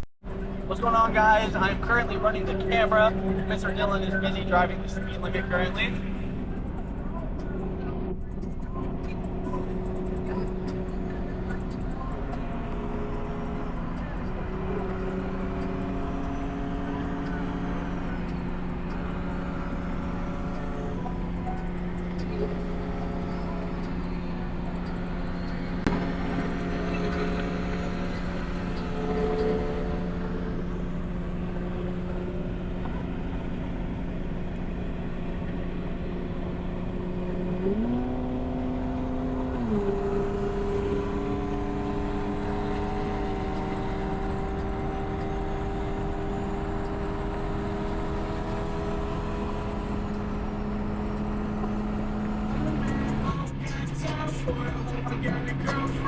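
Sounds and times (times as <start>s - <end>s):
car engine droning: 0.0s - 56.0s
road noise: 0.0s - 56.0s.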